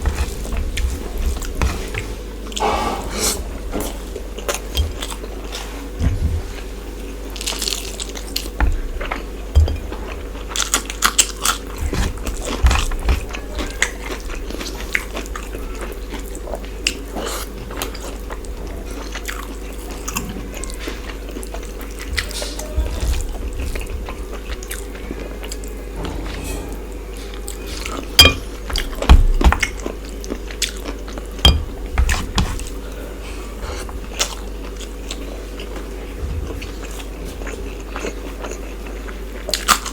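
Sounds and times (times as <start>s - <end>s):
person chewing food: 3.8s - 25.8s, 27.1s - 39.9s.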